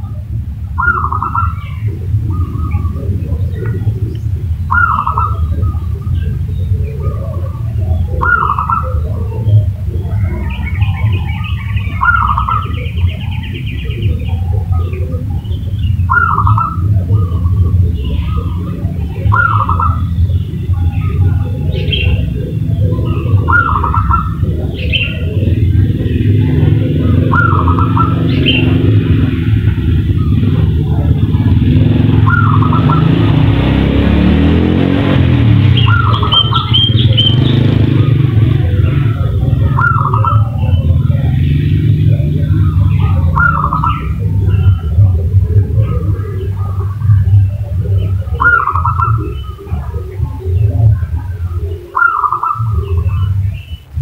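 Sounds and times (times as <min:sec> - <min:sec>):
loud motor drone: 0:00.0 - 0:51.7
bird chirping trill: 0:00.0 - 0:54.0
dove cooing: 0:00.0 - 0:54.0
low rumble: 0:00.0 - 0:54.0.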